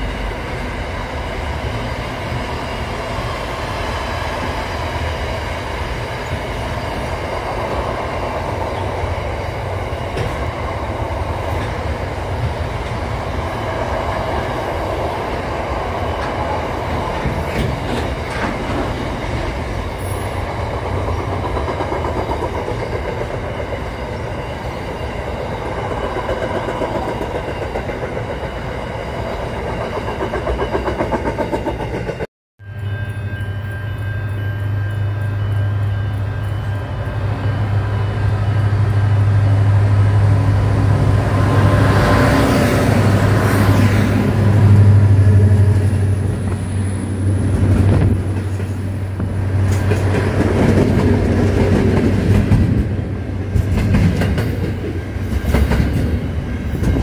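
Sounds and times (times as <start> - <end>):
freight train wheels rumbling: 0.0 - 32.3, 33.4 - 57.0.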